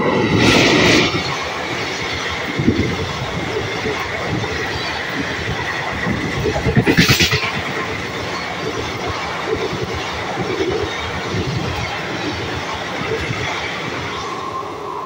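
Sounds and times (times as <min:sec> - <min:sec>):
train rushing past: 0:00.0 - 0:15.0.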